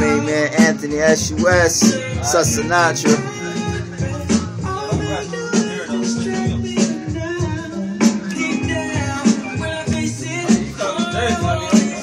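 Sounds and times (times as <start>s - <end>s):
music with steady beat: 0.0s - 12.0s
person singing: 0.0s - 12.0s.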